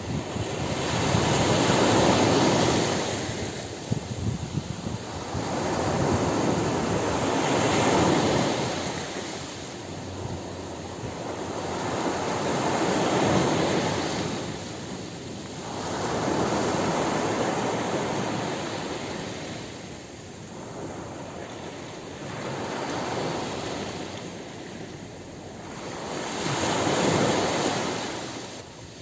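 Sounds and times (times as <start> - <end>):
waves breaking on a beach: 0.0 - 29.0.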